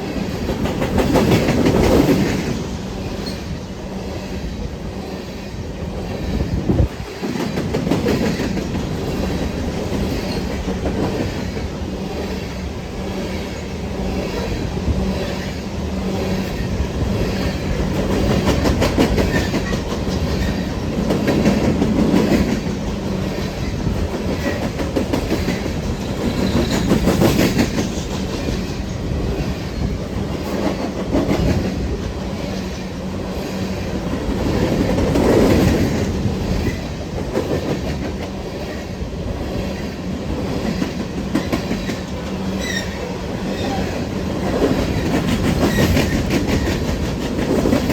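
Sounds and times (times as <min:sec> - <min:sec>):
train wheels clicking over rail joints: 0:00.0 - 0:47.9.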